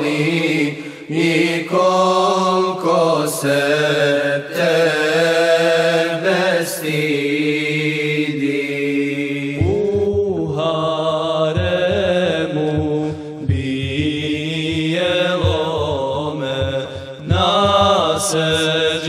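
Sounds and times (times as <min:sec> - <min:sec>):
a cappella singing: 0:00.0 - 0:19.0
vocal drone: 0:00.0 - 0:19.0
wordless vocal melody: 0:00.0 - 0:19.0.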